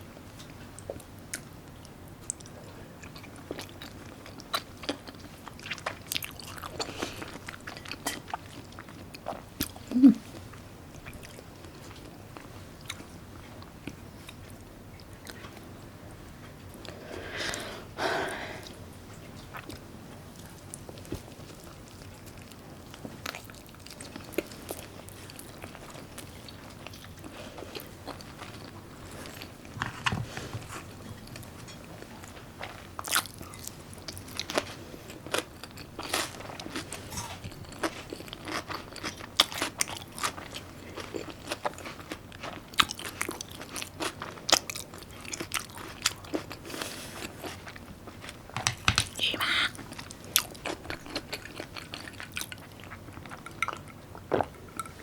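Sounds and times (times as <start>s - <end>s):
chewing with crisp crunches: 0.4s - 17.0s, 18.6s - 55.0s.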